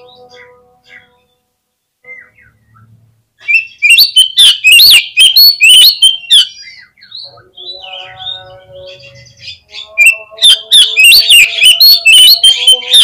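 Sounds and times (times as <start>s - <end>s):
bird singing whistled notes: 2.0s - 13.0s.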